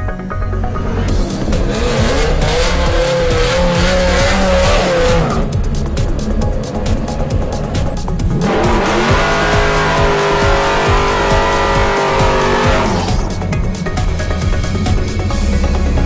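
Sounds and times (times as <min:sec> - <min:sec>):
background music: 0:00.0 - 0:16.0
car engine: 0:00.0 - 0:16.0.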